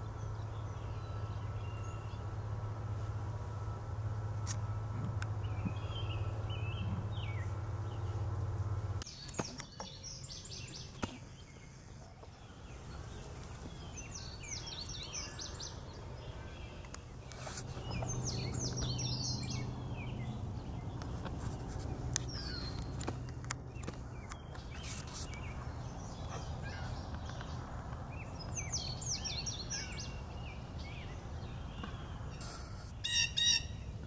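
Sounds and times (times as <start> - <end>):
songbirds chirping: 0.0 - 34.0
steady low hum: 0.0 - 34.0.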